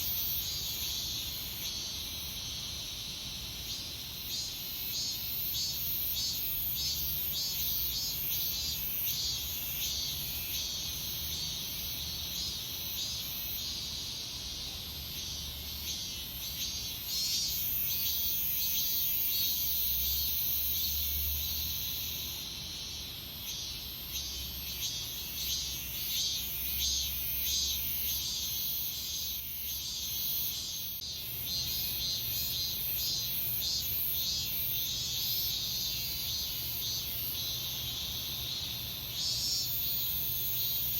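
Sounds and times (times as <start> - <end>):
cicadas pulsing buzz: 0.0 - 40.9
high continuous cicada whine: 0.0 - 40.9.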